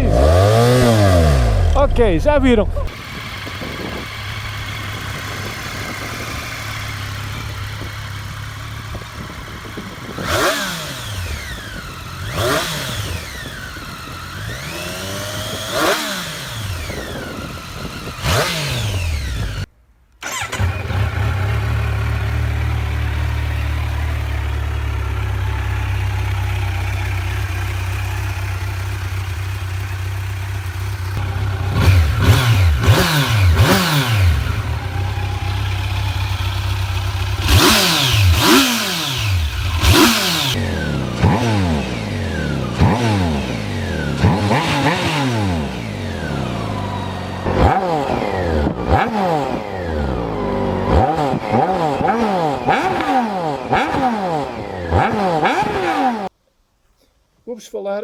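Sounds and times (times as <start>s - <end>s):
motorcycle engine idling and revving: 0.0s - 56.4s
motorcycles passing at speed: 2.9s - 19.6s, 20.4s - 56.3s.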